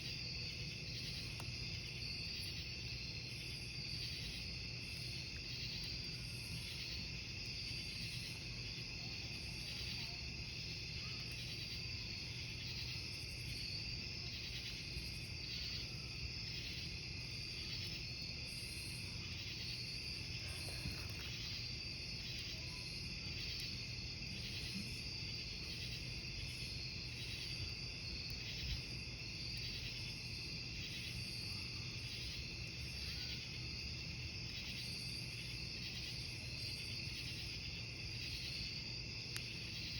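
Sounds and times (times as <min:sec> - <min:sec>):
campfire hissing and crackling: 0:00.0 - 0:39.9
crickets chirping: 0:00.0 - 0:39.9.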